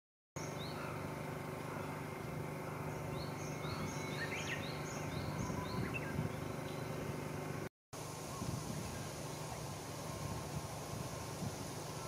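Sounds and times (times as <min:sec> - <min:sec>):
steady low hum: 0:00.4 - 0:12.0.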